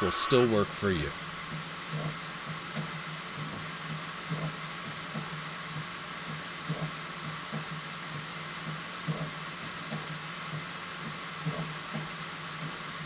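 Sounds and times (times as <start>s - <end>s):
printer fan hiss: 0.0s - 13.0s.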